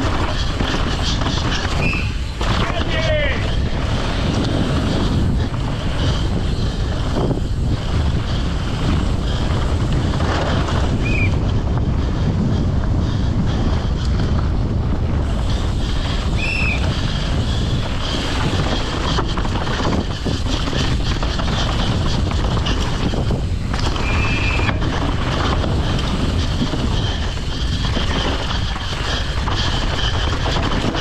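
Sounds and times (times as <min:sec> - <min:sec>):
bike knocking on bumps: 0:00.0 - 0:31.0
mountain bike rumble and rattle: 0:00.0 - 0:31.0
tyres on rocky dirt: 0:00.0 - 0:31.0
wind buffeting microphone: 0:00.0 - 0:31.0.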